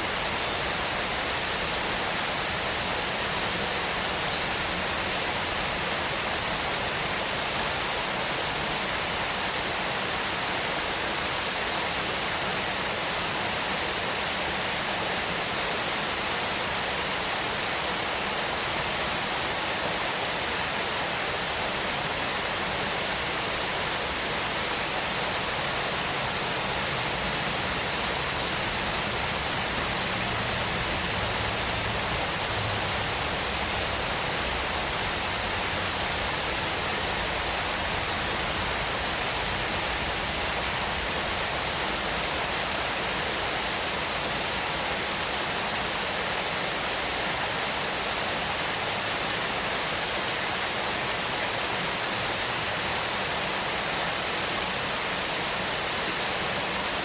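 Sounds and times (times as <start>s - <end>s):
waterfall pouring and splashing: 0.0s - 57.0s.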